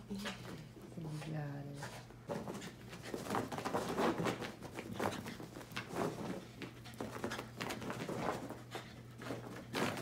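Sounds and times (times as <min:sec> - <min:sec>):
dog scuffling on carpet: 0:01.1 - 0:10.0.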